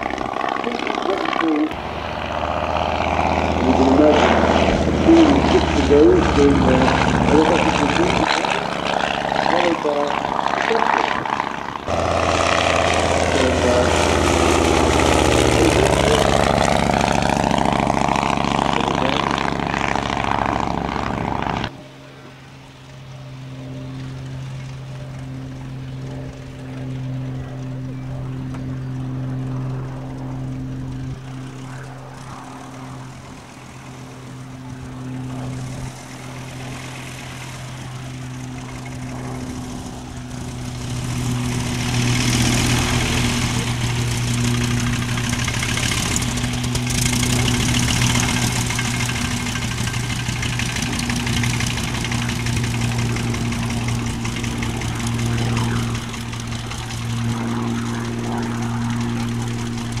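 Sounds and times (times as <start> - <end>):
propeller plane engine droning: 0.0 - 60.0.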